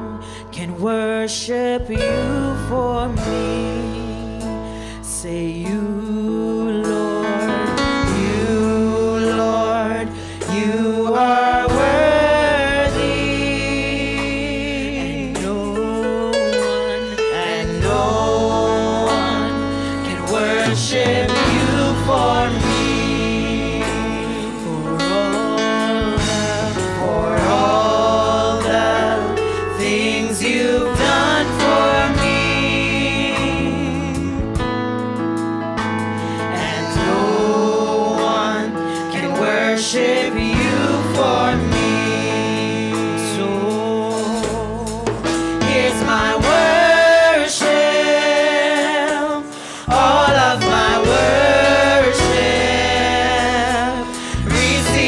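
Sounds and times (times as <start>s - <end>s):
women singing gospel song: 0.0s - 34.7s, 36.3s - 55.0s
live band accompaniment: 1.8s - 55.0s.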